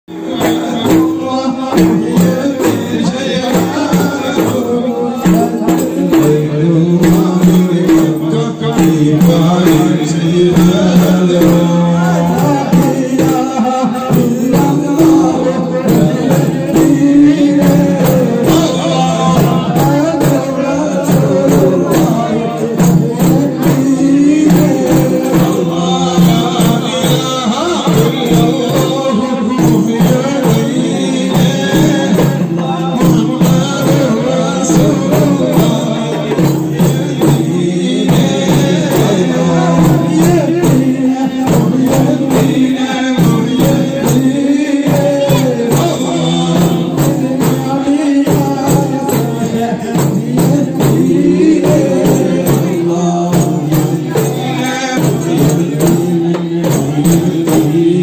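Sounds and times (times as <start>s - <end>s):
men chanting in unison: 0.0s - 58.0s
frame drums beating: 0.1s - 58.0s.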